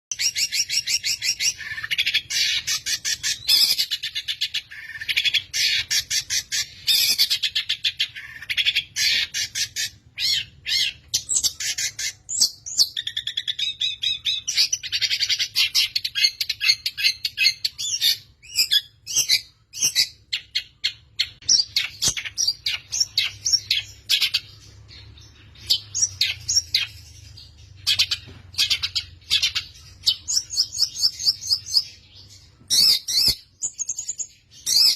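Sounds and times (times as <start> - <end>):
bird singing rapid trills: 0.1 - 34.9.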